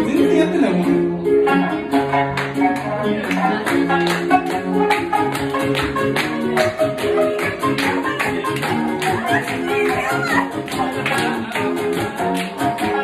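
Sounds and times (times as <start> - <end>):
plucked lute and guitar folk music: 0.0 - 13.0.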